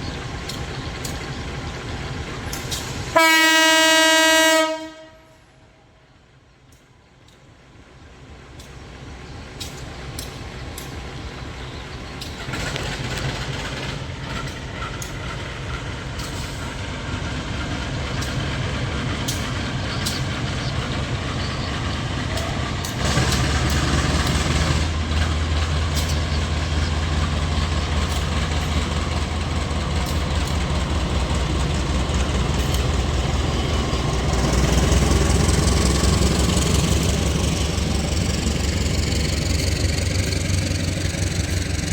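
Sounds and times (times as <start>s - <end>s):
diesel locomotive engine running: 0.0s - 41.9s.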